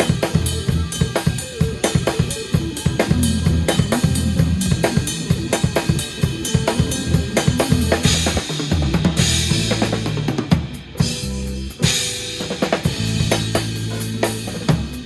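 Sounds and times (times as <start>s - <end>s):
drum kit: 0.0s - 15.0s
jazz fusion band playing: 0.0s - 15.0s.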